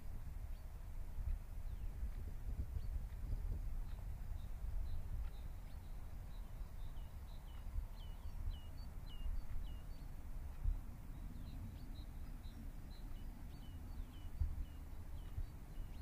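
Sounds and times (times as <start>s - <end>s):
steady low rumble: 0.0s - 16.0s
small birds chirping: 0.1s - 16.0s.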